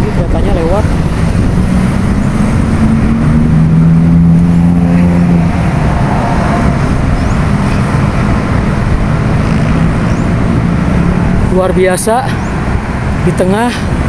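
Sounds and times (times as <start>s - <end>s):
road traffic noise: 0.0s - 14.0s
vehicle engine hum: 0.0s - 14.0s.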